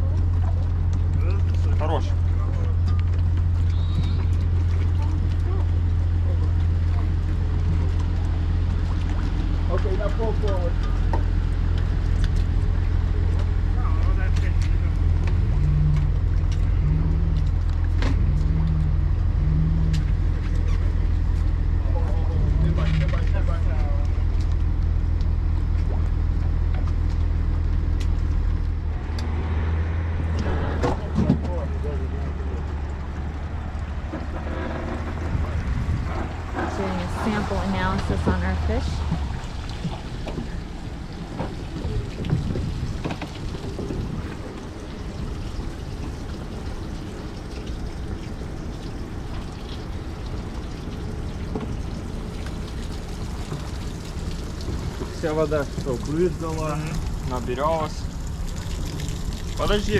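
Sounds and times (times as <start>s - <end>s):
engine droning: 0.0s - 59.9s
water pouring and trickling: 0.0s - 59.9s.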